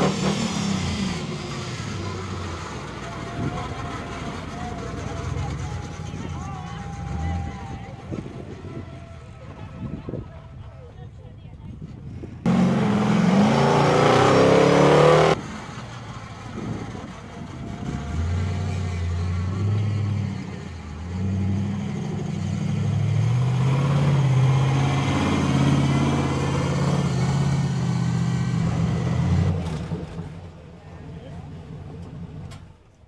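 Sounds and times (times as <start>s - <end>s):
monster truck engine revving: 0.0s - 8.8s, 12.5s - 30.7s.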